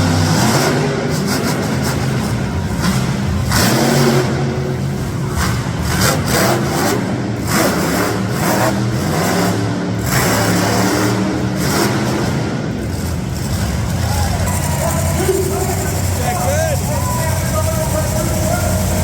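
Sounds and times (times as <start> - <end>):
truck engine revving loud: 0.0 - 19.0.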